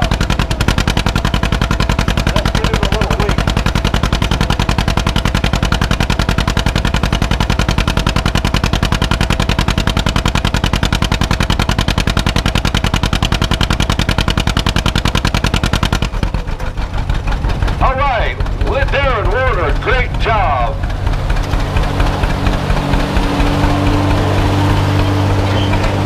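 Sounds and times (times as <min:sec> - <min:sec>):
tractor engine popping exhaust: 0:00.0 - 0:26.0.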